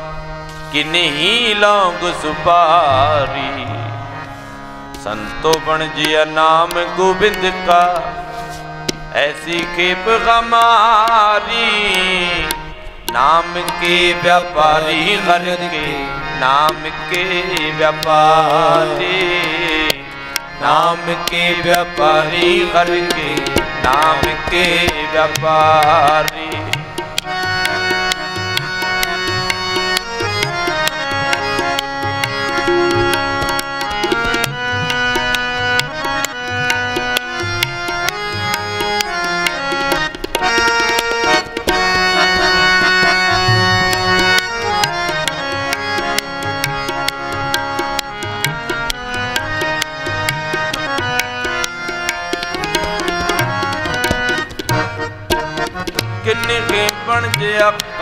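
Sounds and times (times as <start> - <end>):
harmonium melody: 0.0 - 58.0
tabla rhythm: 0.0 - 58.0.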